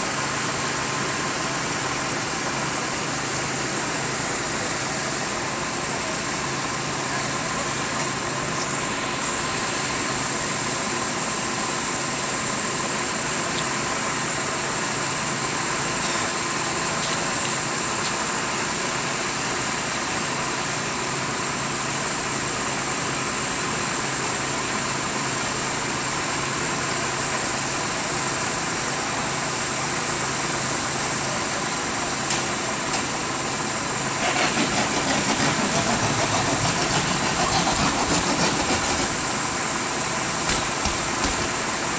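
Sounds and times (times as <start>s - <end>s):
constant high whine: 0.0s - 41.9s
engine running: 0.0s - 41.9s.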